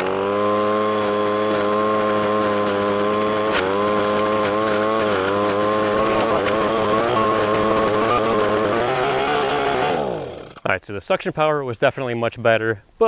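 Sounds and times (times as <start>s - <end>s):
leaf vacuum engine running: 0.0s - 10.6s.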